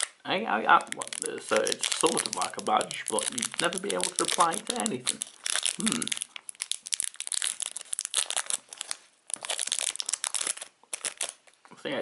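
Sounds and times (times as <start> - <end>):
plastic wrapper crackling: 0.0 - 11.7.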